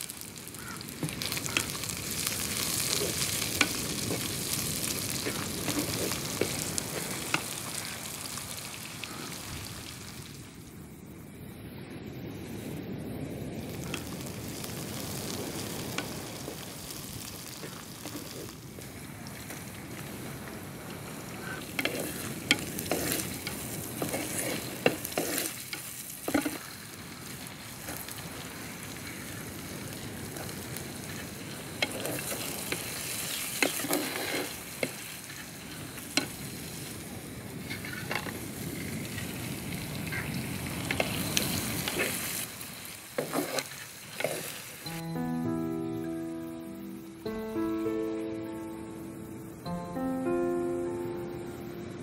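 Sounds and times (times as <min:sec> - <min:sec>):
vegetables sizzling in oil: 0:00.0 - 0:10.6, 0:12.0 - 0:45.4.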